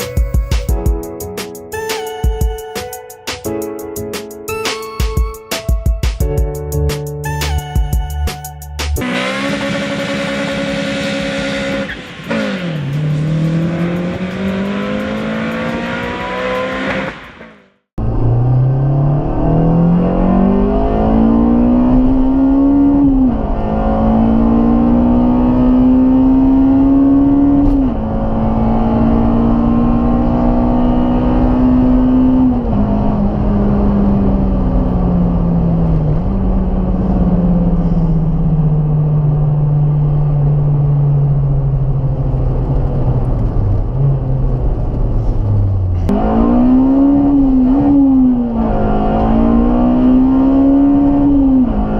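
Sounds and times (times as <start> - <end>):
car engine accelerating through gears: 9.0 - 51.9.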